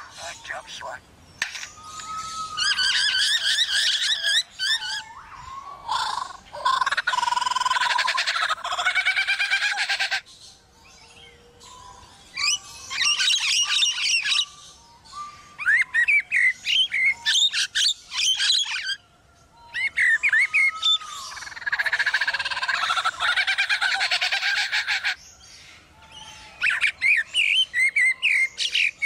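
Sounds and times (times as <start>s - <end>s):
lyrebird whistled song: 1.7s - 8.0s, 10.8s - 29.0s.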